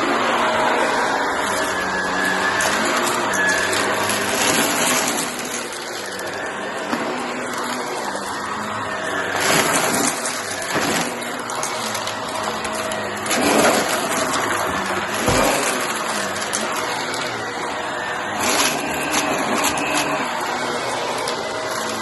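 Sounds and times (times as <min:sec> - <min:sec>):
vacuum cleaner running: 0:00.0 - 0:22.0
vacuum sucking up cardboard: 0:00.0 - 0:22.0.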